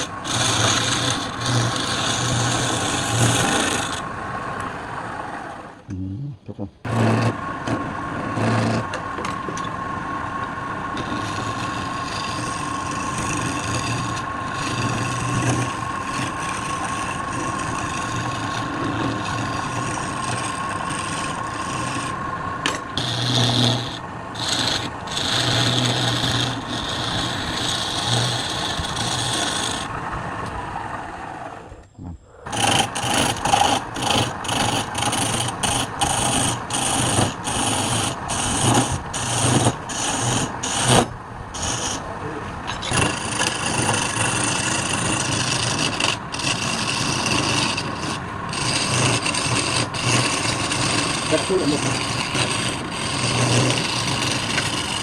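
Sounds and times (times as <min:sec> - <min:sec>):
rhythmic rasping strokes on wood: 0:00.0 - 0:04.1, 0:06.8 - 0:07.8, 0:08.4 - 0:09.0, 0:11.0 - 0:30.0, 0:32.5 - 0:42.1, 0:42.7 - 0:55.0
wood scraping on a lathe: 0:00.0 - 0:05.7, 0:06.8 - 0:31.8, 0:32.4 - 0:55.0
thin motor whine: 0:00.0 - 0:05.8, 0:06.9 - 0:55.0.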